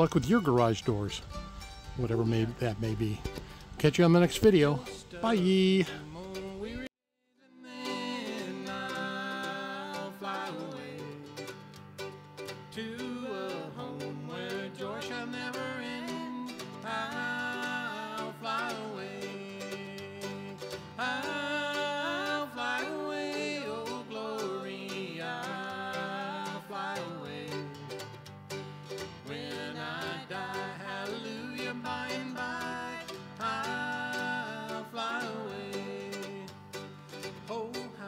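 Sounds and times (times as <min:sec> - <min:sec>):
country music with plucked strings: 0:00.0 - 0:06.9, 0:07.6 - 0:38.0.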